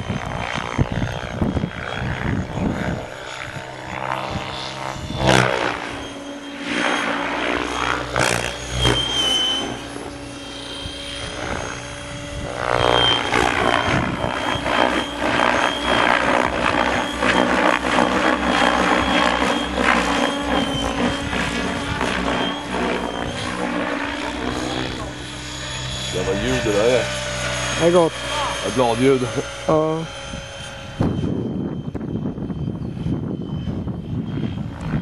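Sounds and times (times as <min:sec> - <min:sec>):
model helicopter rotor chop: 0:00.0 - 0:35.0.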